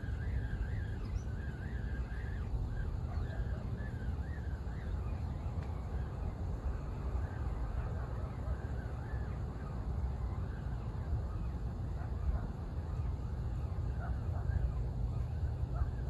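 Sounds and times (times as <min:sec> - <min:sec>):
faint wavering whine: 0:00.0 - 0:16.0
wind rumbling on microphone: 0:00.0 - 0:16.0.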